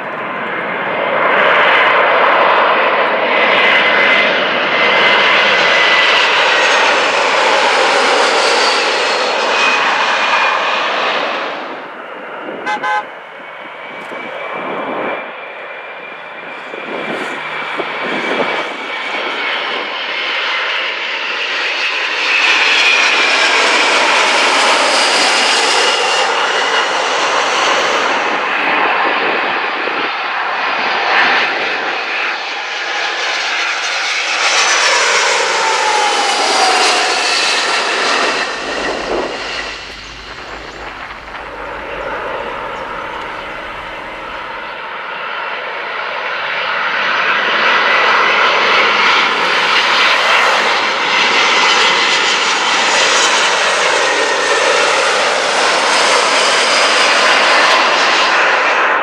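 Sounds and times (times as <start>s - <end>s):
jet engines whining overhead: 0.0s - 59.0s.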